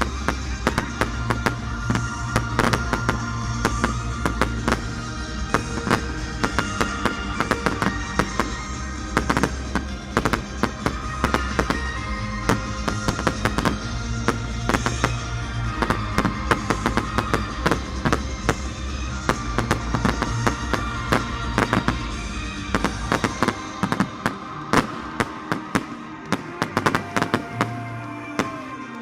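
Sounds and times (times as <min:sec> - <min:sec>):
fireworks bangs and crackles: 0:00.0 - 0:29.0
music with held notes: 0:00.0 - 0:29.0.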